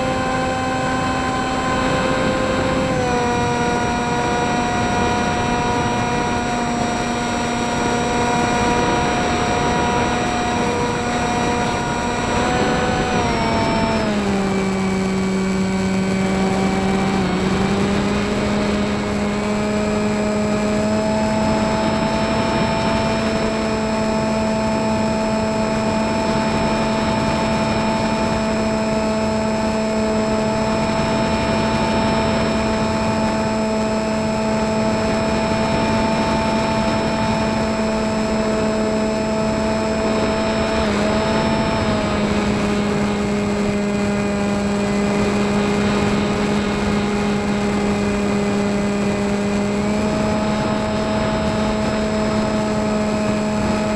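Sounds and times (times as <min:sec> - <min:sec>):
model airplane motor whine: 0:00.0 - 0:53.9
wind rush: 0:00.0 - 0:53.9.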